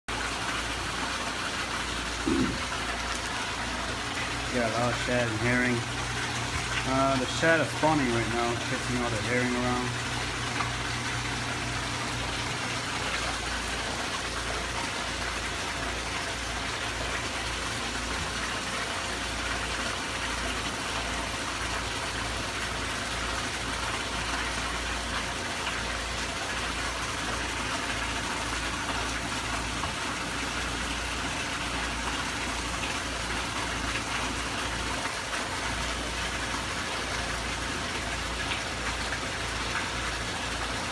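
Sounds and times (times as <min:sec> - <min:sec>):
water rushing in tank: 0:00.1 - 0:40.9.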